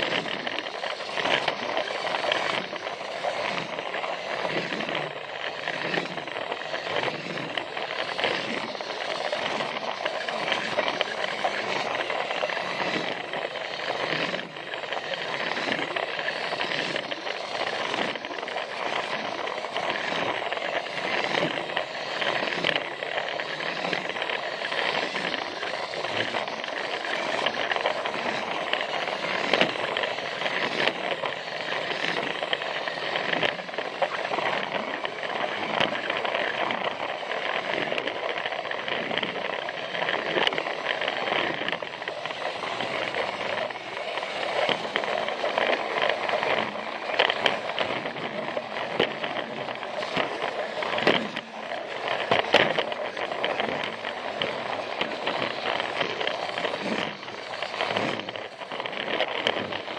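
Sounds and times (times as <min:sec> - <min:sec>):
toy train motor whirring: 0:00.0 - 0:59.9
wheels clicking on plastic track: 0:00.0 - 0:59.9.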